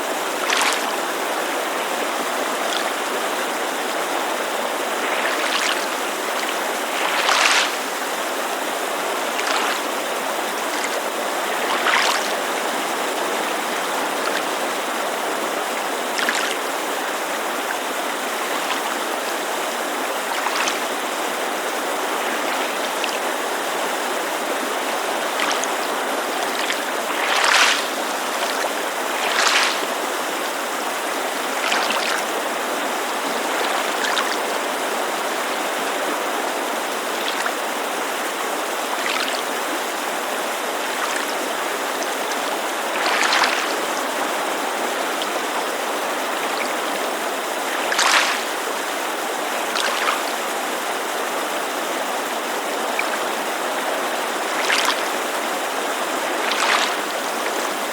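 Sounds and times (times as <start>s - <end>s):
creek rushing: 0.0s - 57.9s
small waves lapping on shore: 0.0s - 57.9s.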